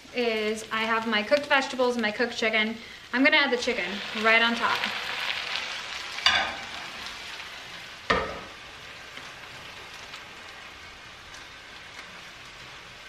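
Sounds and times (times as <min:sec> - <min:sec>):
food sizzling in skillet: 0:00.0 - 0:13.0.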